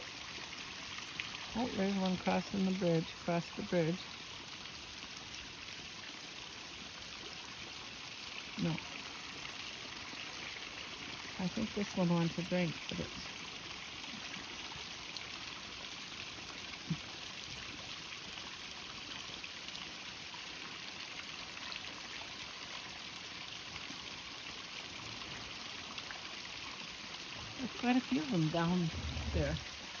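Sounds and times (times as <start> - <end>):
stream trickling over waterfall: 0.0 - 30.0.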